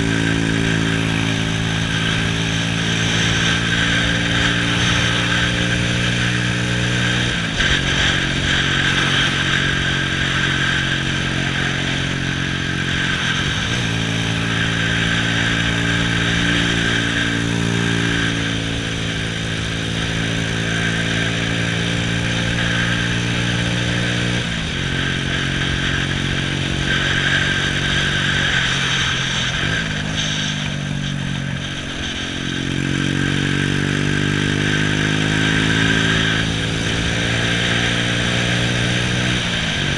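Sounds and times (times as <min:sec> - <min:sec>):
motorcycle engine running: 0:00.0 - 0:39.9
wind rush and road noise: 0:00.0 - 0:39.9.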